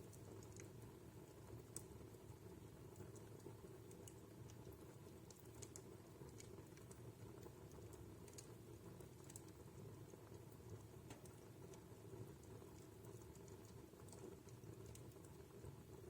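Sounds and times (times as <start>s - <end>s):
faint wood fire crackling: 0.0s - 16.0s.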